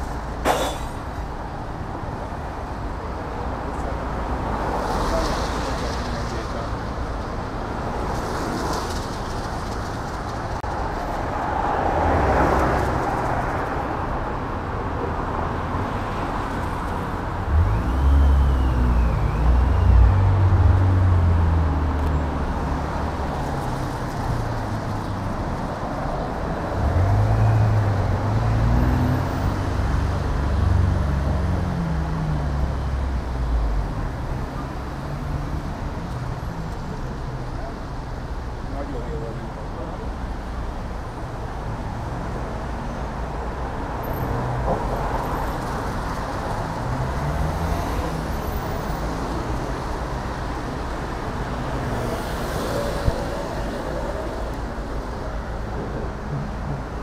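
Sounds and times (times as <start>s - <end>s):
deep engine rumble of vehicles: 0.0s - 57.0s.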